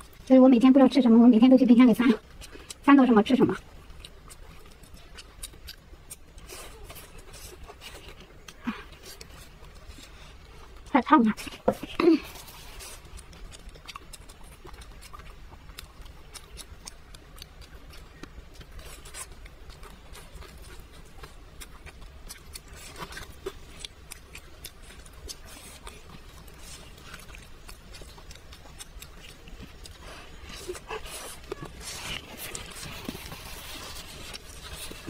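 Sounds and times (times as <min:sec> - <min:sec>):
chewing: 0:00.0 - 0:35.0.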